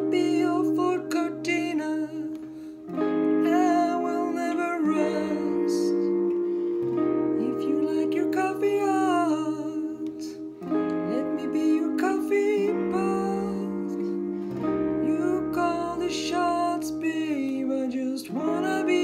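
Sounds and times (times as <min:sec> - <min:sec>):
electric guitar slow held chords: 0:00.0 - 0:19.0.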